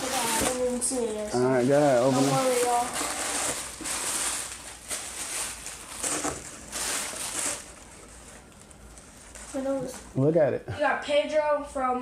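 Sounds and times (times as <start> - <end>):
plastic wrapping rustling: 0.0 - 10.1.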